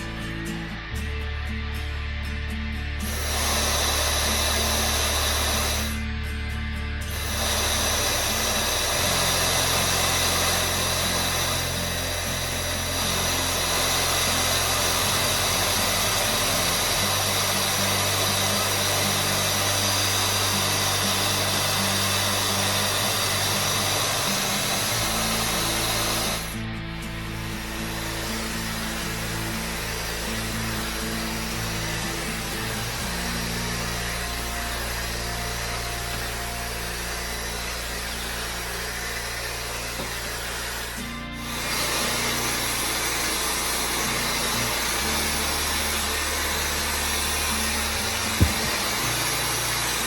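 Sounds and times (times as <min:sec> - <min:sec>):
background music with bass: 0:00.0 - 0:50.0
hair dryer blowing: 0:03.0 - 0:06.2, 0:07.0 - 0:50.0.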